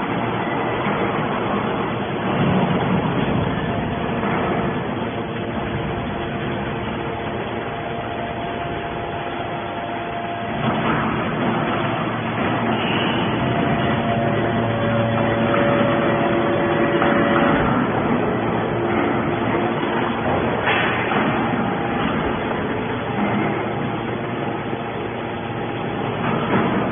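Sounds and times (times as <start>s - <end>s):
scrap metal baler running: 0.0s - 26.9s.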